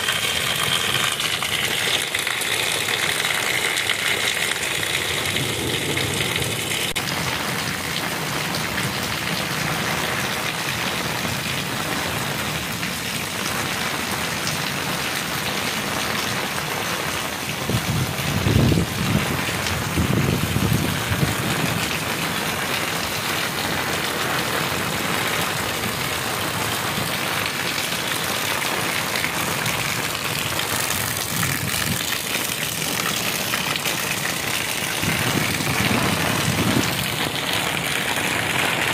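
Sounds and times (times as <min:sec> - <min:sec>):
heavy rain on concrete: 0:00.0 - 0:38.9.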